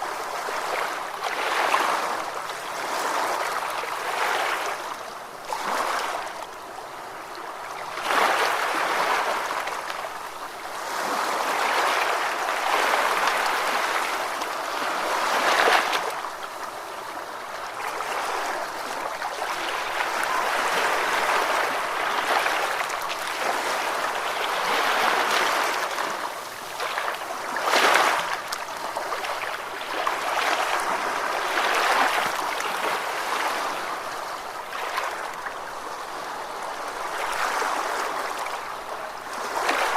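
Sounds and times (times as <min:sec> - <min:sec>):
water breaking in surges: 0:00.0 - 0:39.9.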